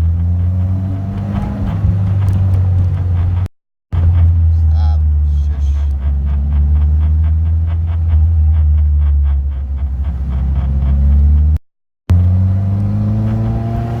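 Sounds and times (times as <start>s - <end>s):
brakes squeaking: 0.0s - 14.0s
car running drone: 0.0s - 14.0s.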